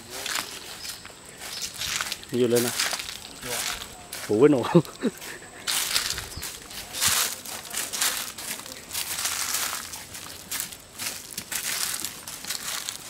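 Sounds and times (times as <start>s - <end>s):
footsteps crunching on dry leaves: 0.0s - 13.0s.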